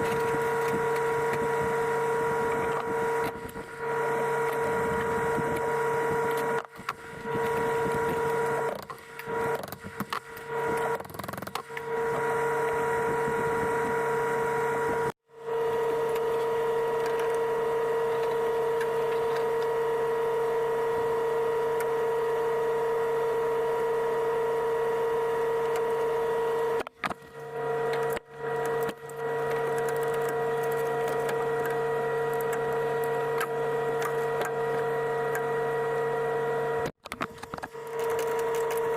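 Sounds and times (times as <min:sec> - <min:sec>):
small electric motor running: 0:00.0 - 0:38.9.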